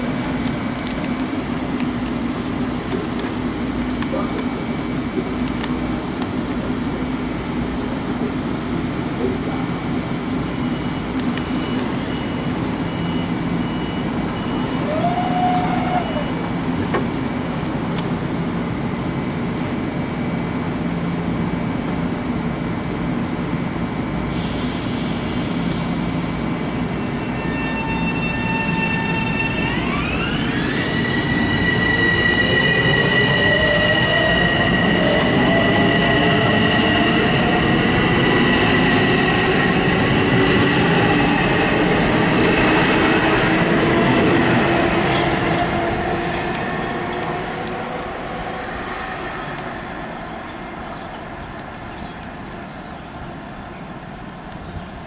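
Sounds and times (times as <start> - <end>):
electric train rumbling wheels: 0.0 - 55.0
train high whine: 0.0 - 55.0.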